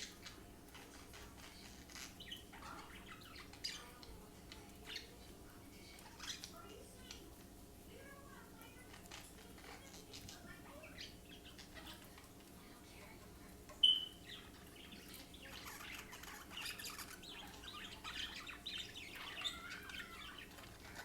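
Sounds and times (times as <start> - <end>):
parakeets chirping: 0.0 - 21.0.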